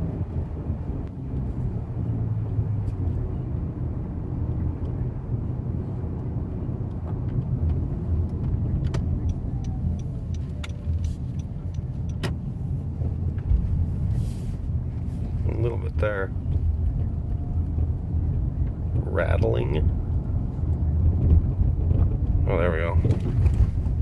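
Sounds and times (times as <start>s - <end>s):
car road rumble: 0.0s - 24.0s.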